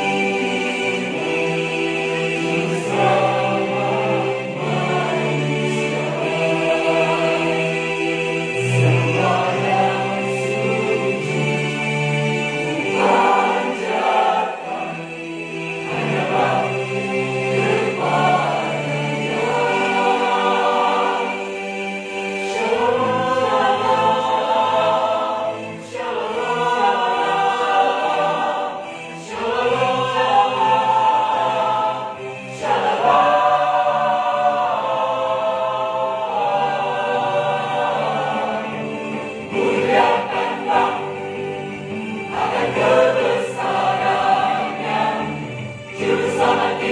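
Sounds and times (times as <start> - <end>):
mixed choir singing a hymn: 0.0 - 46.9.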